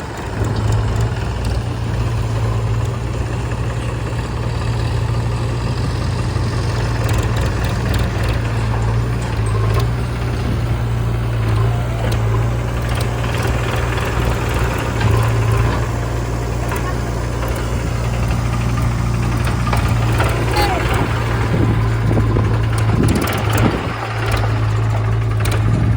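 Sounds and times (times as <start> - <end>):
diesel machinery running: 0.0 - 25.9.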